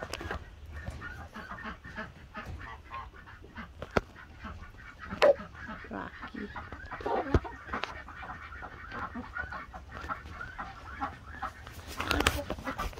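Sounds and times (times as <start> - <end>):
chickens clucking: 0.0 - 12.9.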